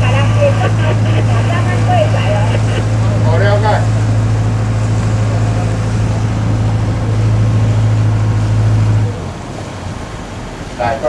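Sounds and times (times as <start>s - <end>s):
broad rushing noise: 0.0s - 11.0s
ferry engine droning: 0.0s - 11.0s.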